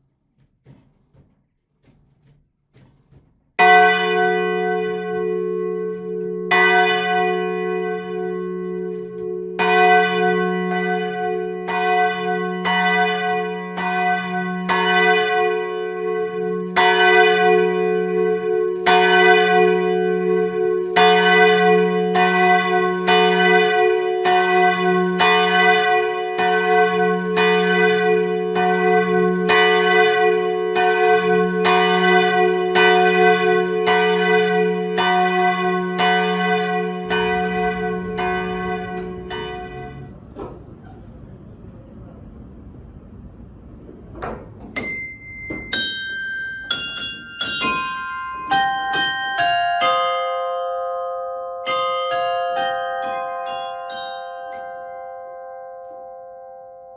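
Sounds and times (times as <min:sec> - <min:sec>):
church bells ringing: 0:03.6 - 0:40.6, 0:44.8 - 0:56.9.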